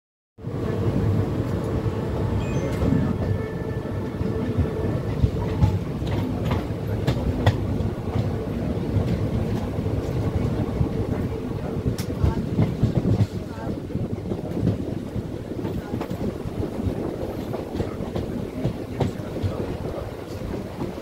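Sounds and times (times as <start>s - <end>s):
train rumbling on tracks: 0.4s - 21.0s.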